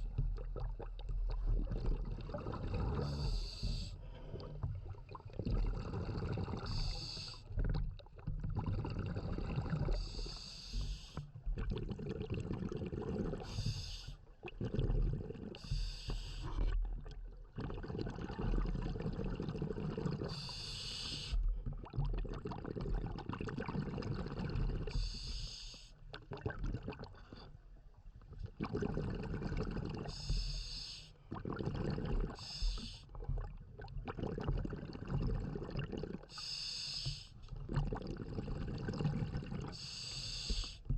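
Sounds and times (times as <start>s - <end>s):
hissing exhaled bubbles: 0.0s - 7.8s, 8.4s - 16.9s, 17.6s - 25.5s, 28.6s - 40.9s
low rumble of water noise: 0.0s - 40.9s.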